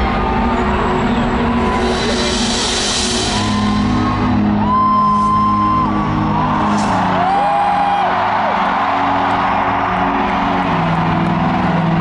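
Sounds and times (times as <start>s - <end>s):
crowd cheering and whistling: 0.0s - 12.0s.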